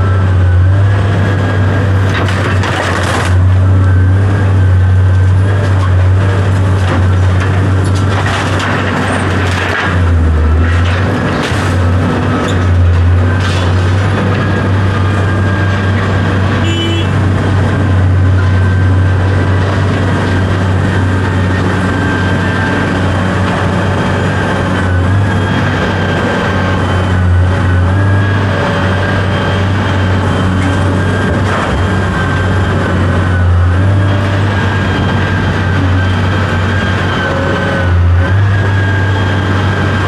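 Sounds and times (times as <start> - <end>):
large engine humming: 0.0 - 40.0.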